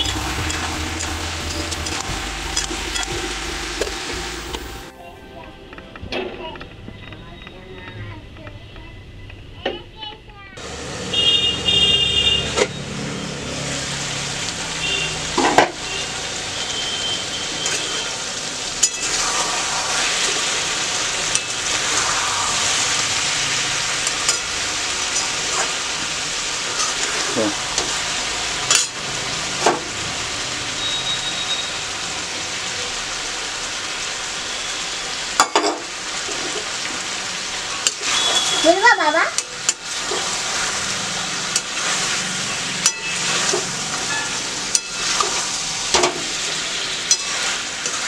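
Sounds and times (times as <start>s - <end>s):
food sizzling in a pan: 0.0s - 4.9s, 10.6s - 48.0s.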